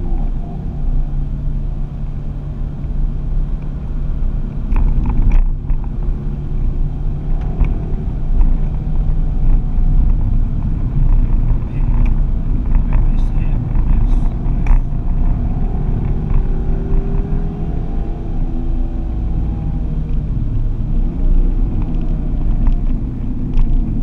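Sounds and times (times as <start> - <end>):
car engine hum: 0.0 - 24.0
tyre and road rumble: 0.0 - 24.0.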